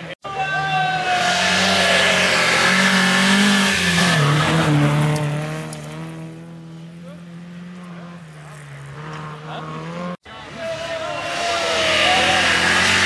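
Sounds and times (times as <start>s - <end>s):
rally car engine passing: 0.8s - 13.0s.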